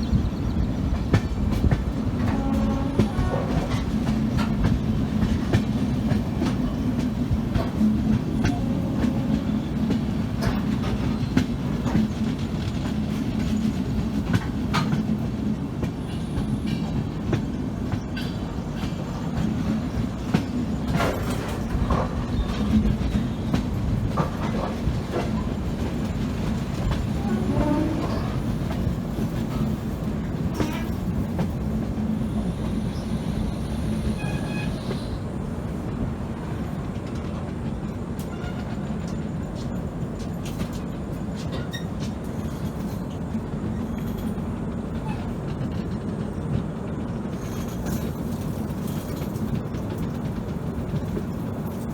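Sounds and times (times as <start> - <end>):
train rumbling on track: 0.0 - 51.9.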